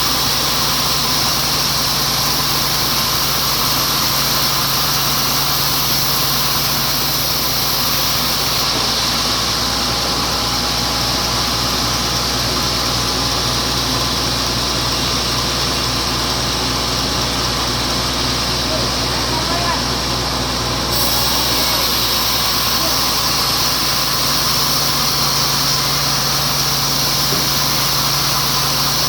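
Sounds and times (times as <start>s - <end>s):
sawmill saw machinery drone: 0.0s - 29.0s.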